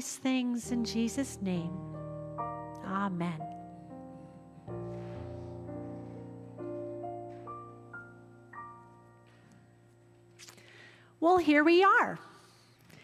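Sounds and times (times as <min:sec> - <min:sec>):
soft keyboard music: 0:00.6 - 0:11.6.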